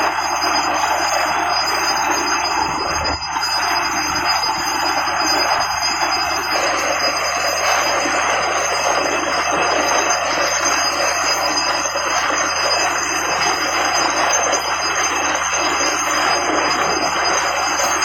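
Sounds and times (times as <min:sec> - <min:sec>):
drilling rig rushing grinding: 0:00.0 - 0:18.0
thin high whines: 0:00.0 - 0:18.0.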